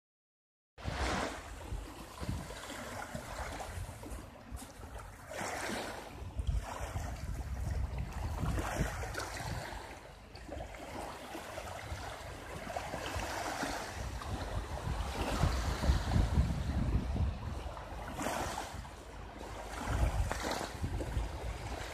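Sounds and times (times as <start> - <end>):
waves lapping on pebble shore: 0.8 - 17.3, 17.9 - 18.8, 19.4 - 21.9
wind buffeting microphone: 0.8 - 21.9.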